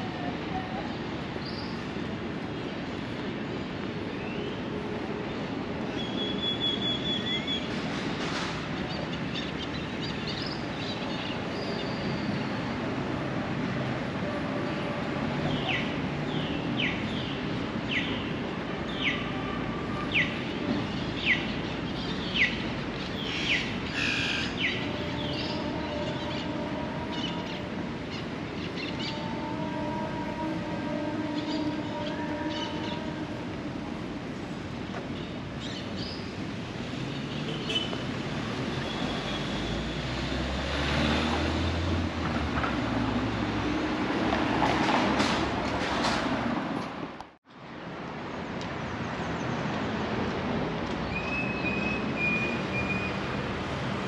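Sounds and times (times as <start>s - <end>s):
city street noise: 0.0s - 54.0s.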